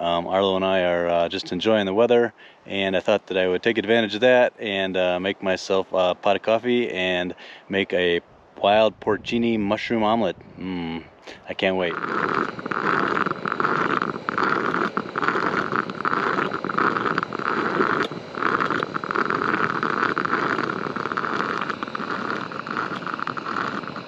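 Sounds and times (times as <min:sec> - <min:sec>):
percolator bubbling and hissing: 0:00.0 - 0:07.9, 0:09.2 - 0:24.0.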